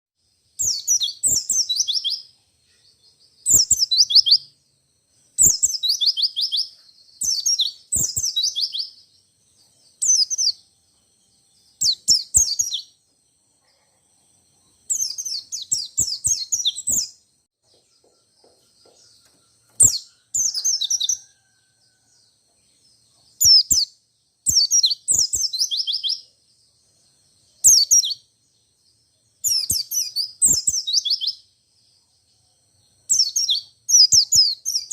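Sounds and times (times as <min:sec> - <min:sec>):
bird twittering song: 0:00.2 - 0:34.9.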